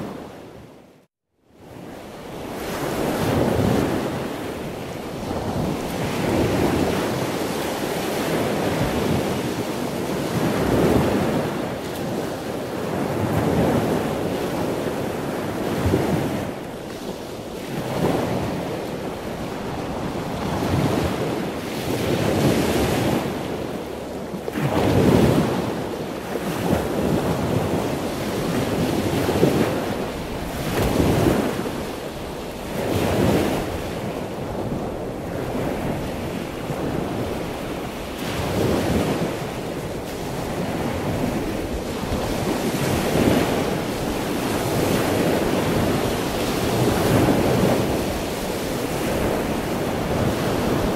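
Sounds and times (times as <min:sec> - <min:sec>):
ocean waves washing in: 0:01.6 - 0:50.9.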